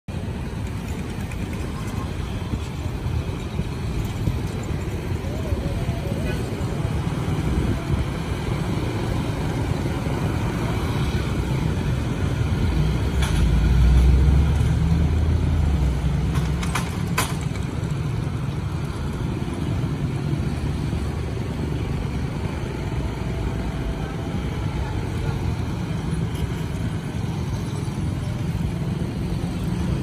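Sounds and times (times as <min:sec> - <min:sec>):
motorcycles and cars passing: 0:00.1 - 0:30.0.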